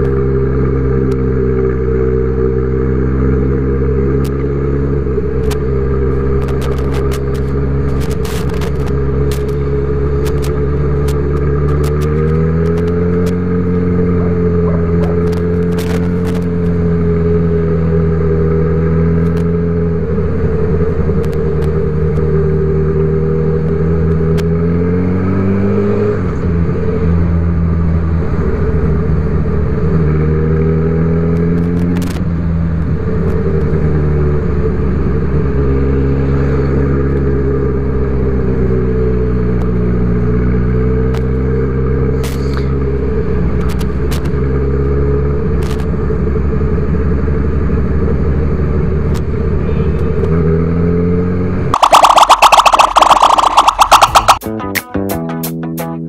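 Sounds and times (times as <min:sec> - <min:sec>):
motorcycle engine revving: 0:00.0 - 0:54.4.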